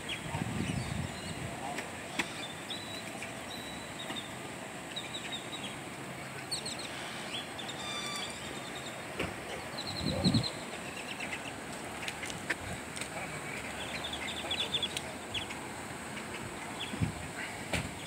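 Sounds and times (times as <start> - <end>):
outdoor background hum: 0.0 - 18.0
small birds chirping: 0.0 - 18.0.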